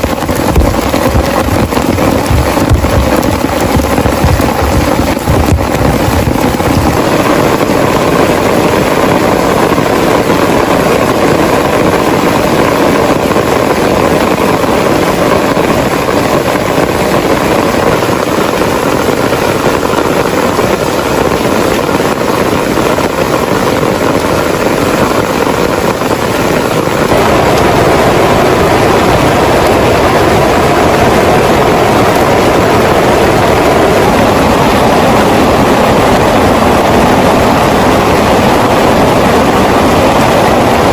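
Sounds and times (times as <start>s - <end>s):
heavy rain on a tent: 0.0s - 40.9s.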